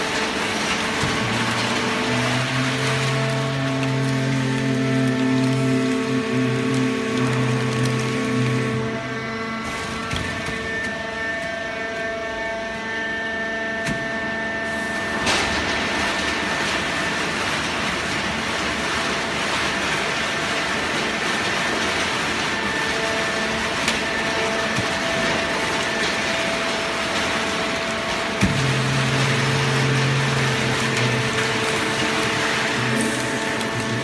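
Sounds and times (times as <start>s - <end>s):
baler machine hum: 0.0s - 34.0s.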